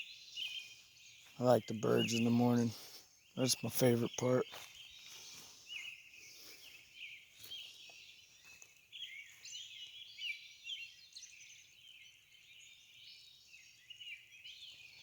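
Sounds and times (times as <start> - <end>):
songbirds dawn chorus: 0.0 - 15.0.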